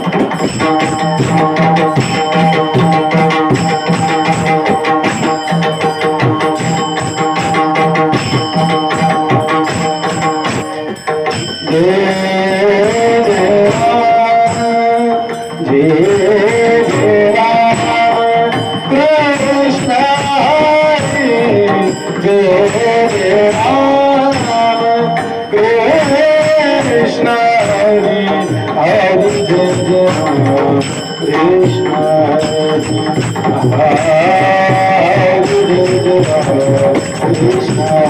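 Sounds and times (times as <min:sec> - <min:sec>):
pakhawaj drumming: 0:00.0 - 0:38.0
sliding melody line: 0:00.0 - 0:38.0
steady held tones: 0:00.0 - 0:38.0.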